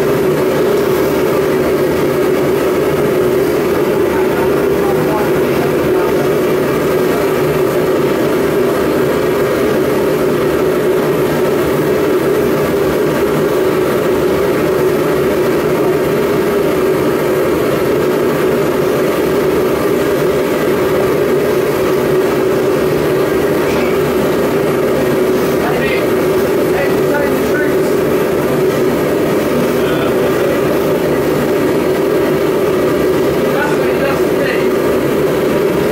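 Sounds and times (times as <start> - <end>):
forge burner roaring: 0.0 - 35.9.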